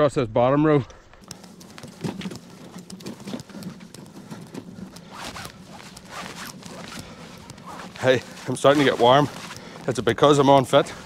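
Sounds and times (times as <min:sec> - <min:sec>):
footsteps in grass: 0:01.1 - 0:11.0
wheelbarrow rattling over grass: 0:01.3 - 0:04.8, 0:05.6 - 0:11.0.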